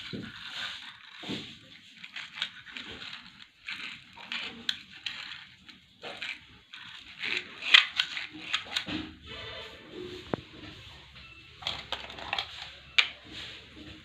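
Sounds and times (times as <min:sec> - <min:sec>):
crunching and scraping handling noise: 0:00.0 - 0:14.0.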